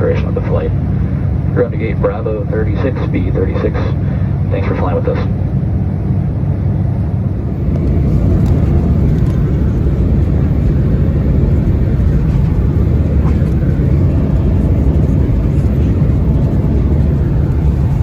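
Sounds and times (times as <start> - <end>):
jet cabin drone: 0.0 - 18.0.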